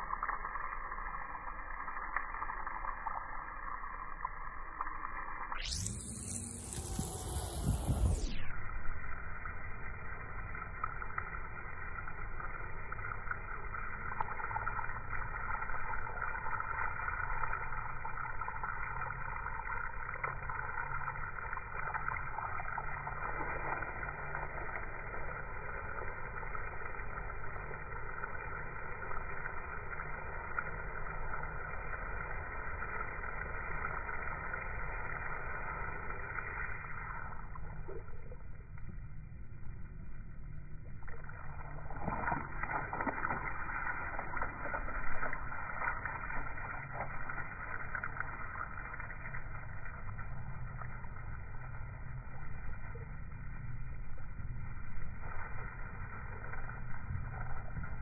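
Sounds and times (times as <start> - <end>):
slowed hose spray rushing: 0.0 - 58.0.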